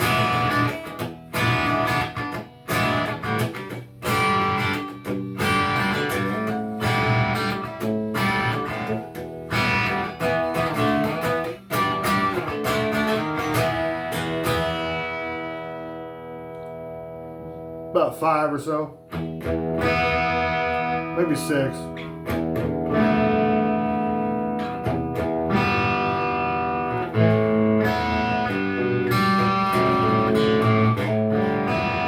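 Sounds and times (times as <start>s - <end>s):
electric guitar strumming and picking: 0.0s - 32.0s.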